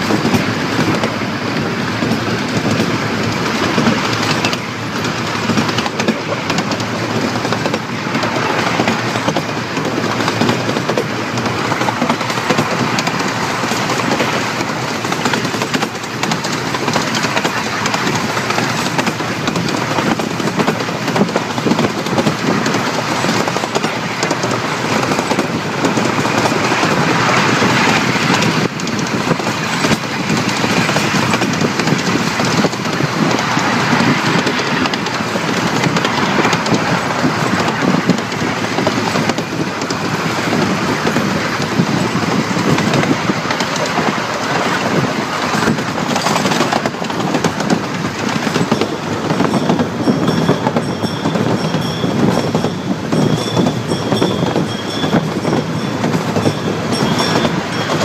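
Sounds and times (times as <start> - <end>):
clatter over rail joints: 0.0 - 58.0
train wheels rumbling on rail: 0.0 - 58.0.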